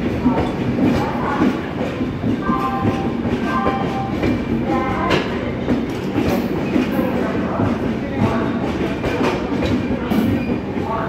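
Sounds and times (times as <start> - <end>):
clickety-clack over rail joints: 0.0 - 11.0
train wheels rumbling on rails: 0.0 - 11.0.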